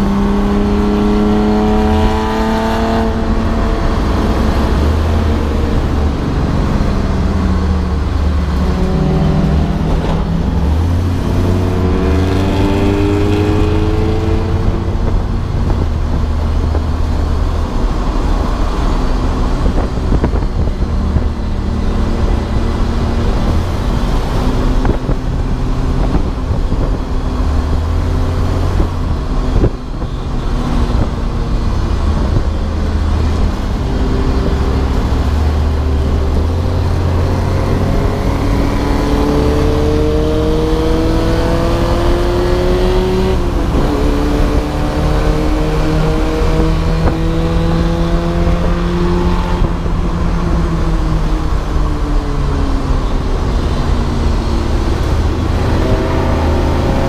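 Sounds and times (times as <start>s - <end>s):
race car engine revving: 0.0s - 57.0s
road and wind noise: 0.0s - 57.0s.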